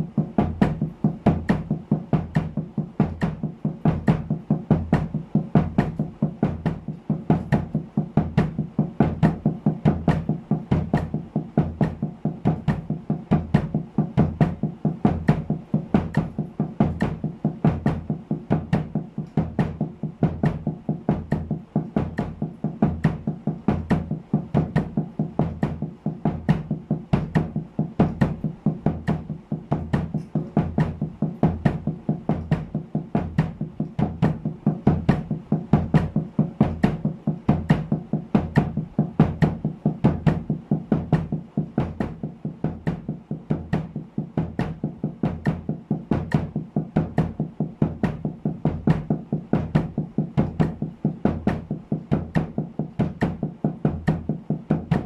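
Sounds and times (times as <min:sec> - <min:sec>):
bass drum kicks: 0:00.0 - 0:55.0
muffled snare drum double strokes: 0:00.0 - 0:55.0.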